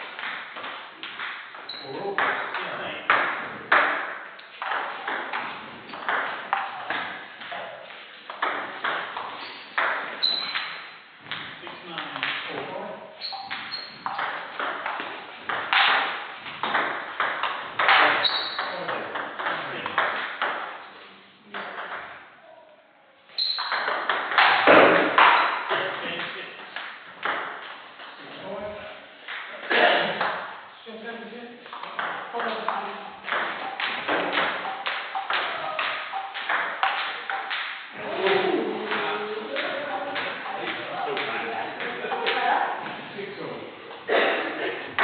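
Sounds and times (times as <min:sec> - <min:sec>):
table tennis ball pocks echoing: 0:00.0 - 0:12.6, 0:13.2 - 0:20.8, 0:23.4 - 0:27.8, 0:31.7 - 0:43.1.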